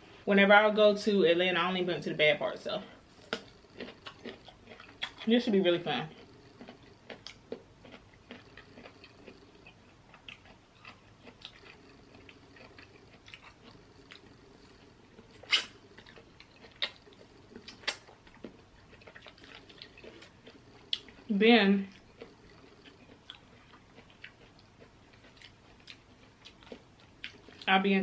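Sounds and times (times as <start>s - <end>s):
chewing and lip smacking: 3.1s - 27.8s.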